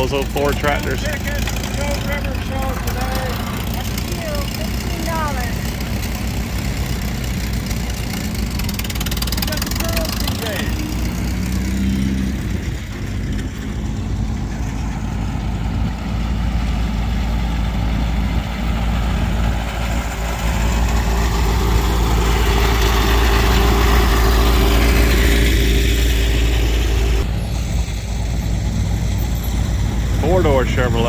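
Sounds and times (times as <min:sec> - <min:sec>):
vehicle engines rumbling past: 0:00.0 - 0:31.0.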